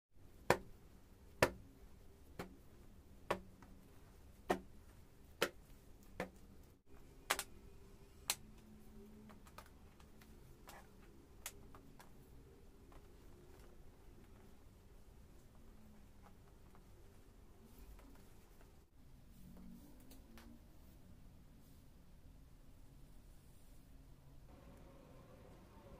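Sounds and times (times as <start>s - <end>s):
faint room hum: 0.2s - 25.9s.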